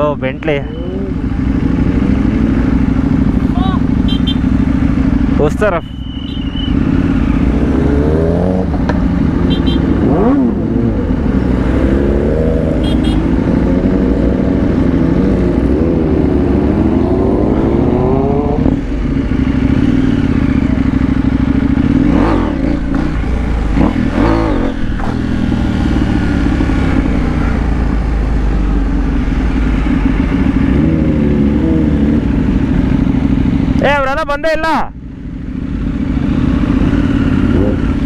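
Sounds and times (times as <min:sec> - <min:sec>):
motorcycle engine running: 0:00.0 - 0:38.0
motorcycle engines revving: 0:00.0 - 0:38.0
road noise: 0:00.0 - 0:38.0.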